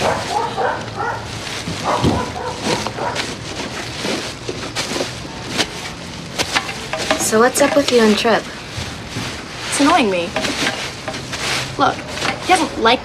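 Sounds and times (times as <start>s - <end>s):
plastic bags rustling: 0.0s - 13.0s.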